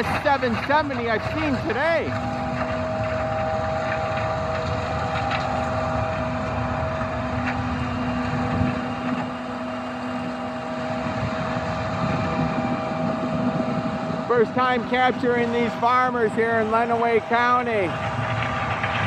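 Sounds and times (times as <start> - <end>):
combine harvester droning: 0.0 - 19.0
wind noise on microphone: 0.0 - 19.0.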